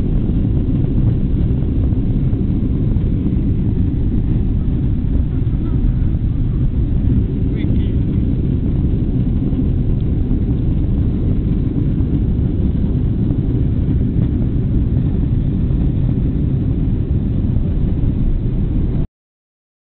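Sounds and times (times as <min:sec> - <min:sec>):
low rumble of engines and wheels: 0:00.0 - 0:19.1.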